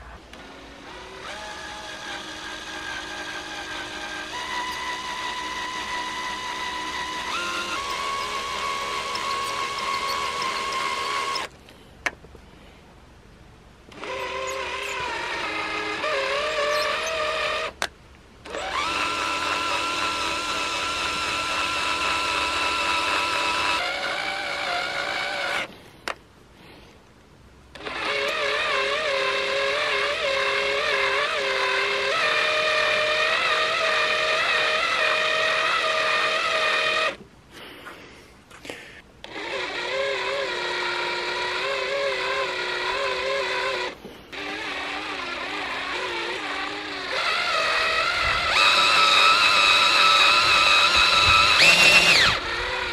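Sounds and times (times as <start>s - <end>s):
cordless drill whining: 0.0s - 11.6s, 13.9s - 26.2s, 27.7s - 37.2s, 39.2s - 52.9s.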